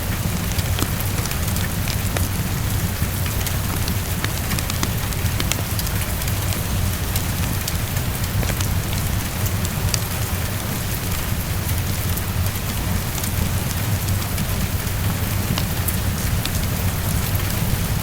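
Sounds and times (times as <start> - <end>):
heavy rain on a window: 0.0 - 18.0
wood fire crackling: 0.0 - 18.0.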